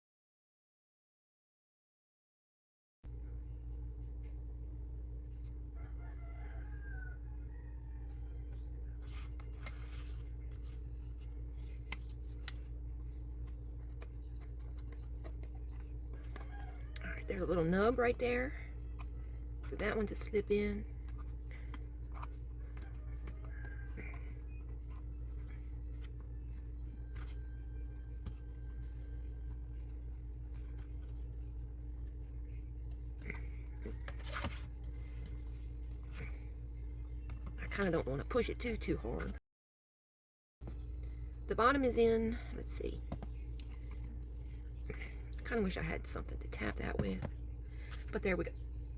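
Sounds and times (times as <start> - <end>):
steady low hum: 3.1 - 39.4, 40.6 - 48.9.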